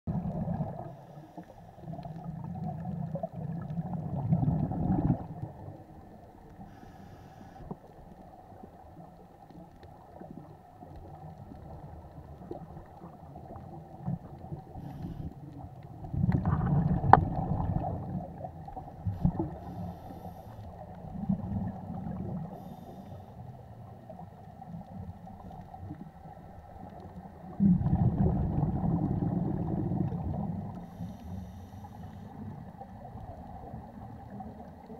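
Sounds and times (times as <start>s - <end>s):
low hiss of water: 0.1s - 34.9s
underwater exhaled bubbles: 0.1s - 34.9s.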